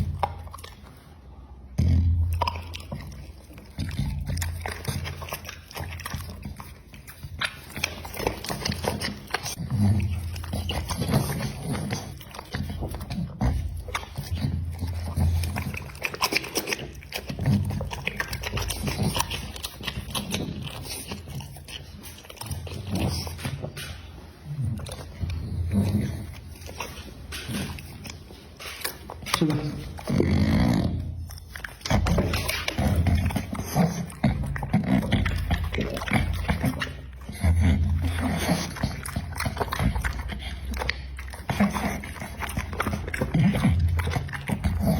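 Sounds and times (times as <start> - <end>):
dog chewing meat: 0.0 - 44.9.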